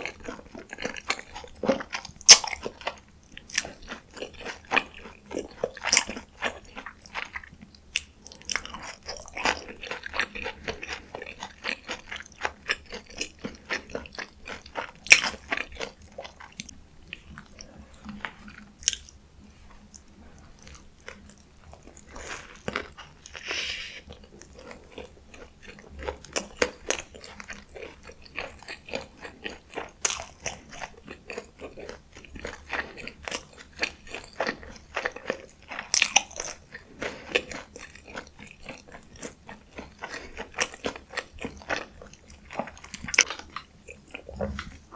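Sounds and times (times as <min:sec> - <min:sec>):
crunchy eating and chewing: 0:00.0 - 0:44.9.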